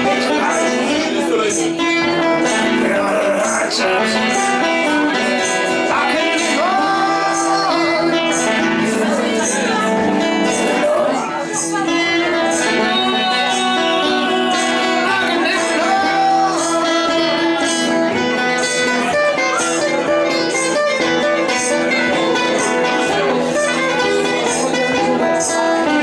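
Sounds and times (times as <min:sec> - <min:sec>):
song with guitar and beat: 0:00.0 - 0:26.0.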